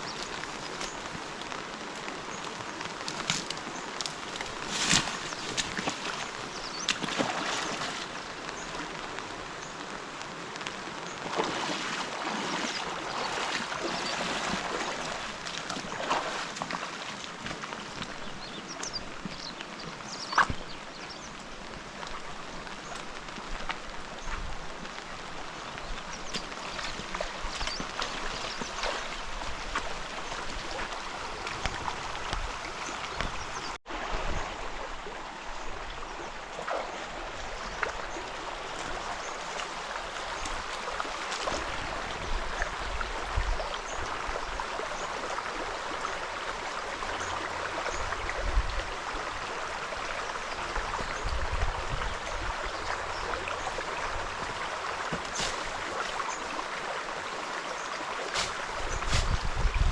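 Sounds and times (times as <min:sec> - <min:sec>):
small splashes and ticks: 0:00.0 - 0:33.8, 0:36.4 - 0:59.6
river water flowing: 0:00.0 - 0:59.9.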